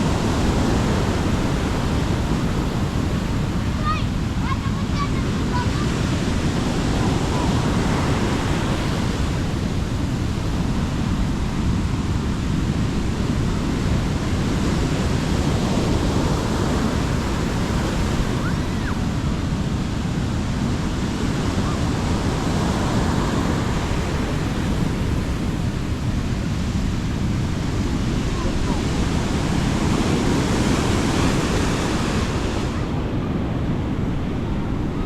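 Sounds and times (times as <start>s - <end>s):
sea waves washing onto beach: 0.0s - 35.0s
wind rumbling on microphone: 0.0s - 35.0s.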